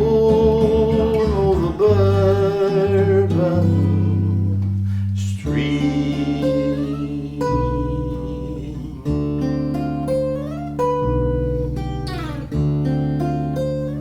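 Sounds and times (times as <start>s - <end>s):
guitar chords ringing: 0.0s - 14.0s.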